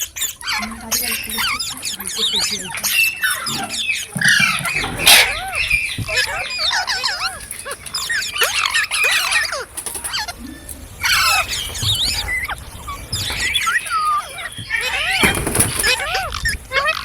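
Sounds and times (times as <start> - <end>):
parrots screeching: 0.0 - 17.0.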